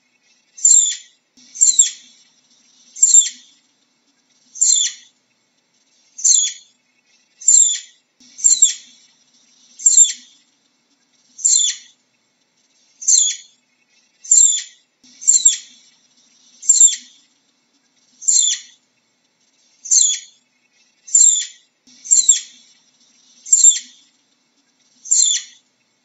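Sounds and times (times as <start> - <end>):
flying squirrel chirping: 0.2 - 3.6, 4.4 - 5.1, 5.9 - 10.5, 11.2 - 12.0, 12.7 - 17.4, 18.0 - 24.2, 24.8 - 25.7.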